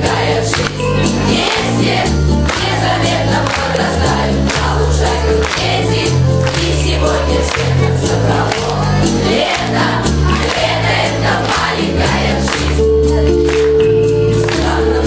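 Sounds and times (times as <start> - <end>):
backing track with bass line: 0.0 - 15.0
group of young voices singing: 0.0 - 15.0.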